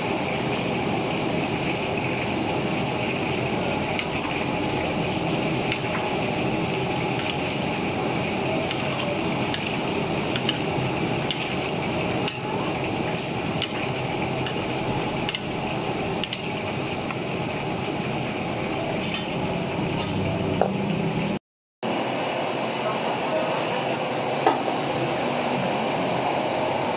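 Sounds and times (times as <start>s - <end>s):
food cooking in a wok: 0.0s - 22.5s.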